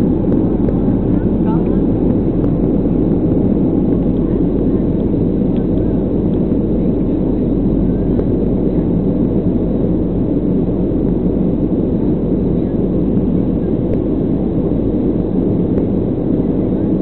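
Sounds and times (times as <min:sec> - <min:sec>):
loud jet engine rumble: 0:00.0 - 0:17.0
rushing air in cabin: 0:00.0 - 0:17.0.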